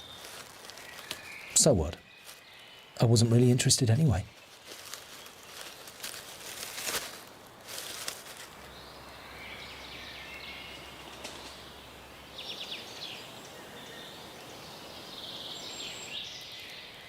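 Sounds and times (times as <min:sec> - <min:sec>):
small birds chirping: 0:00.0 - 0:07.0, 0:07.7 - 0:17.0
rustle: 0:00.0 - 0:17.0.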